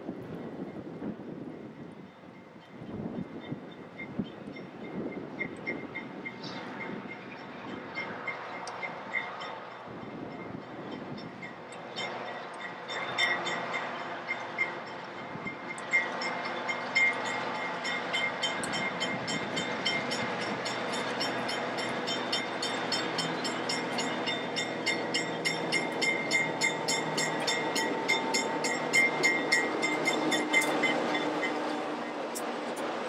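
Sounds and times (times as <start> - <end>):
diesel locomotive engine running: 3.2 - 33.0
wheels clicking over rail joints: 3.4 - 33.0.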